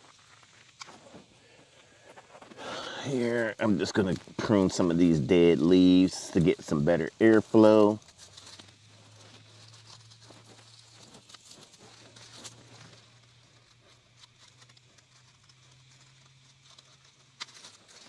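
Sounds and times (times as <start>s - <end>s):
leaves rustling and clicking: 0.0s - 18.0s
low steady hum: 0.0s - 18.0s.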